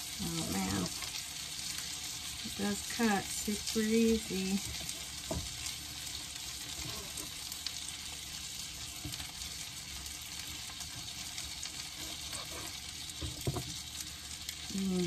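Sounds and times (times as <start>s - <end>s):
fat sizzling in a pan: 0.0s - 15.0s.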